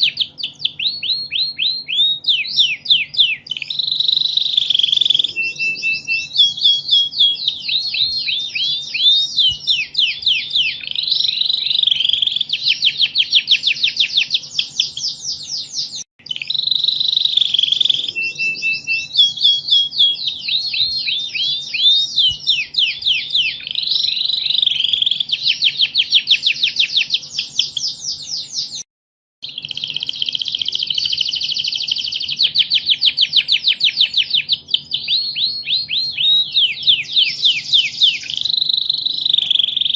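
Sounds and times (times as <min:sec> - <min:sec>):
canary singing trills: 0:00.0 - 0:28.8, 0:29.4 - 0:39.9.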